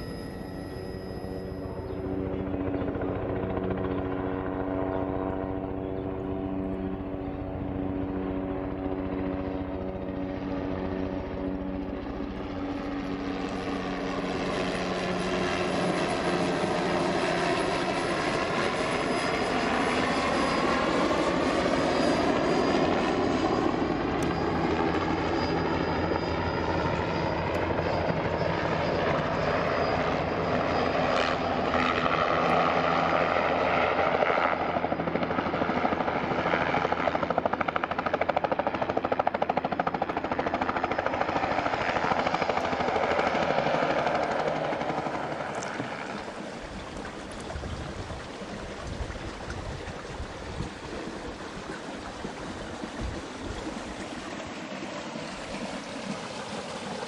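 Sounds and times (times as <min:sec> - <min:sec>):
high turbine whine: 0:00.0 - 0:36.7, 0:37.4 - 0:57.0
helicopter rotor chop: 0:00.0 - 0:57.0.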